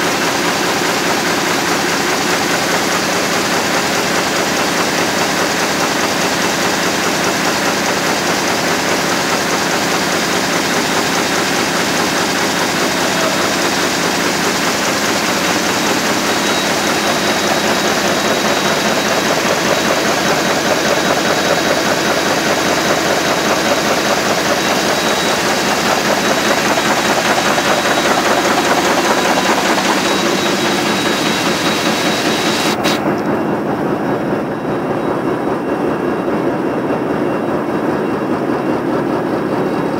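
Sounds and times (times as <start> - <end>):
printing press running: 0.0 - 39.9.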